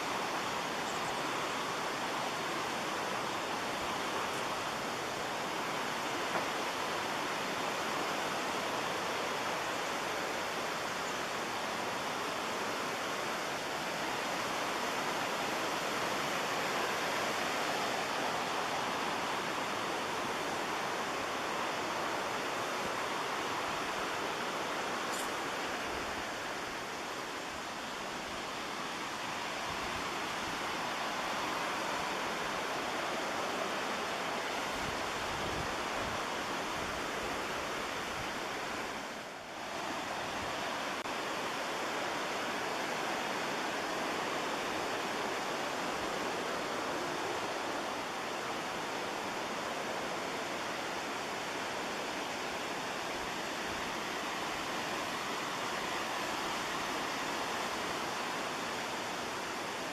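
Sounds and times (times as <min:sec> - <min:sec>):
rushing white water: 0:00.0 - 0:59.9.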